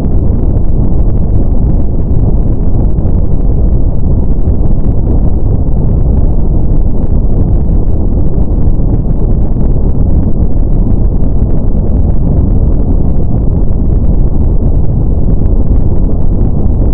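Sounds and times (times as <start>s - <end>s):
deep steady hiss: 0.0s - 16.9s.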